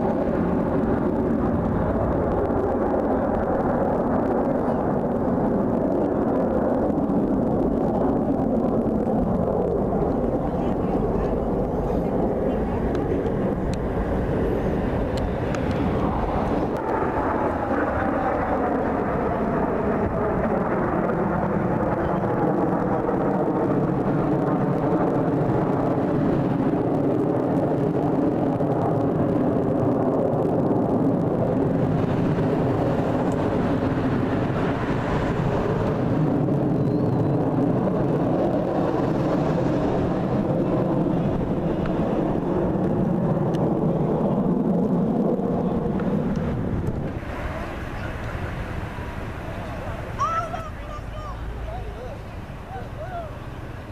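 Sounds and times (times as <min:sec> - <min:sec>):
airplane engine drone: 0:00.0 - 0:53.9.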